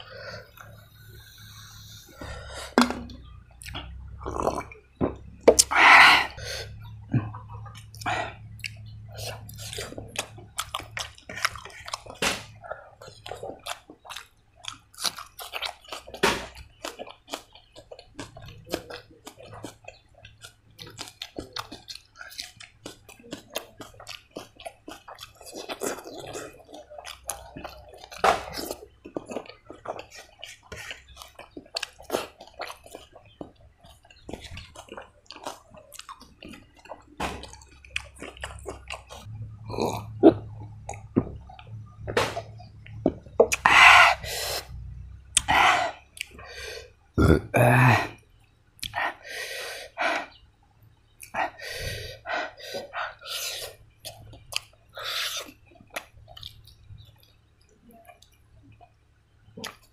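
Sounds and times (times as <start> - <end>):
wet chewing and lip smacking: 0.0 - 47.2, 48.2 - 59.9.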